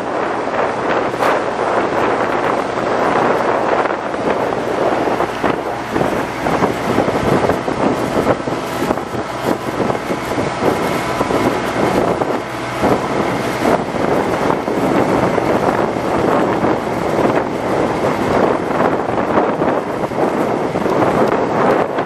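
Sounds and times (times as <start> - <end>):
boat engine droning: 0.0 - 22.0
wind buffeting microphone: 0.0 - 22.0.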